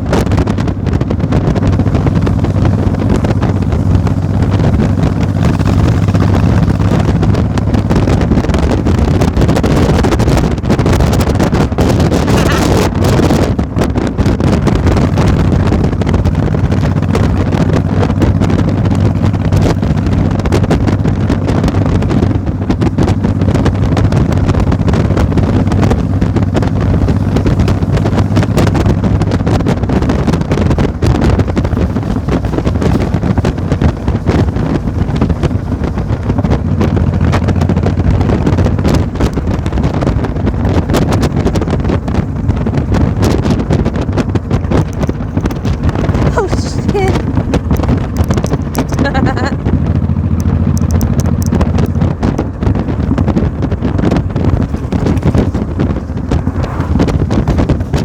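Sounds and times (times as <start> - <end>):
low engine hum: 0.0 - 58.0
wind buffeting microphone: 0.0 - 58.0.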